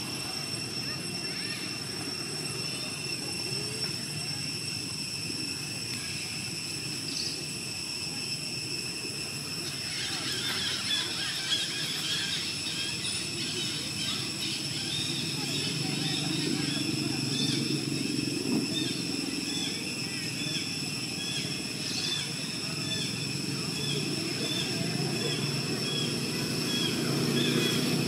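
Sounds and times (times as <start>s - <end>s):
high-pitched whine: 0.0s - 28.0s.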